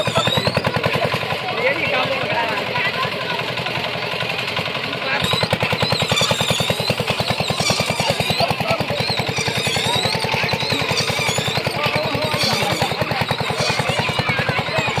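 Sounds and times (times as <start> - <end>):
crowd and children's voices: 0.0 - 15.0
small engine chugging: 0.0 - 15.0.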